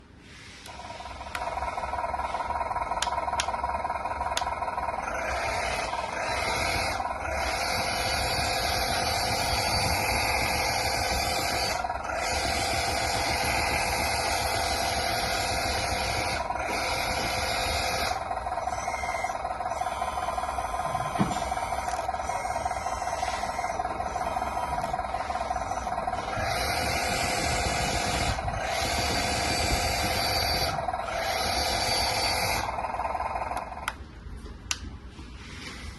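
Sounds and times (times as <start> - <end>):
hissing rattling mechanical noise: 0.0 - 35.9
hydraulic pump whine: 0.6 - 34.0.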